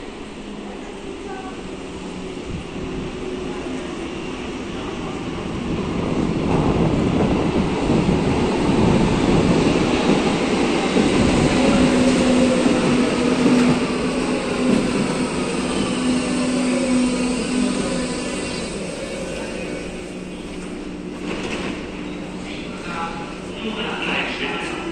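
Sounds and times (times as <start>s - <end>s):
braking train hum and whine: 0.0s - 24.9s
train wheels rumbling on track: 0.0s - 24.9s.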